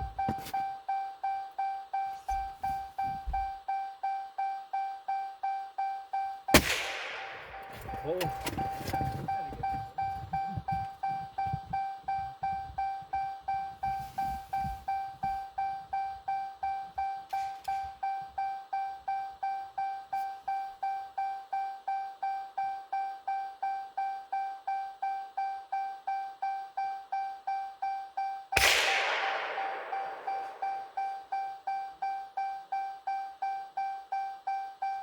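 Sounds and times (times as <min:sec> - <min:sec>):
car door warning chime: 0:00.0 - 0:06.6, 0:07.5 - 0:28.6, 0:29.8 - 0:35.0.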